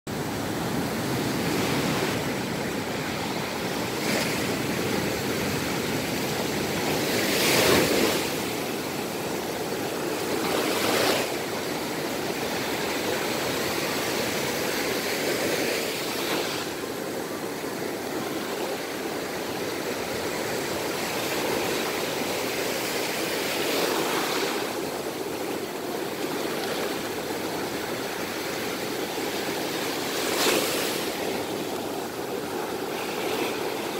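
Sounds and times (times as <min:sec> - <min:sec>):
waves crashing on beach: 0:00.1 - 0:33.9.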